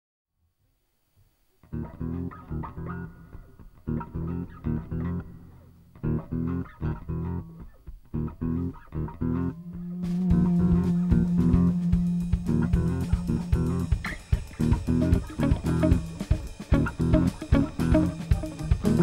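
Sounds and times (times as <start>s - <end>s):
electric bass riff: 1.6s - 19.0s
electric guitar riff: 1.7s - 19.0s.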